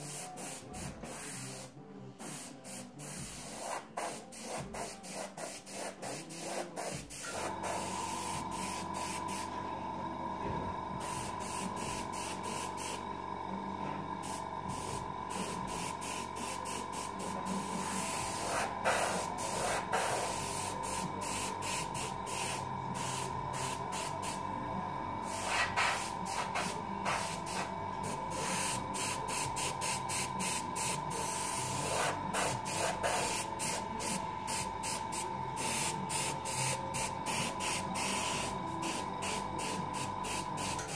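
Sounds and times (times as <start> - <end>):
airbrush spraying in hissing bursts: 0.0 - 9.5, 11.0 - 13.0, 14.2 - 24.4, 25.2 - 40.9
steady hum: 7.3 - 40.9.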